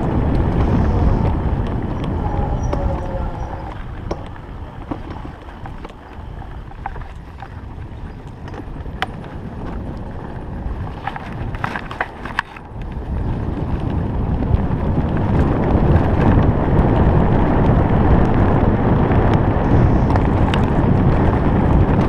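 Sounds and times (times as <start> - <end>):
bike rattling over ground: 0.0 - 22.0
wind rumbling on microphone: 0.0 - 22.0.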